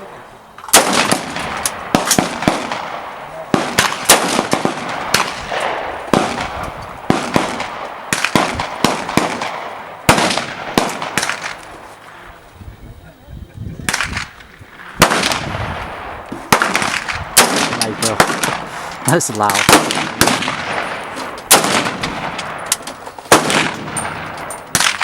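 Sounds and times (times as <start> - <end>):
rifle gunshots: 0.6 - 11.9, 13.8 - 25.0.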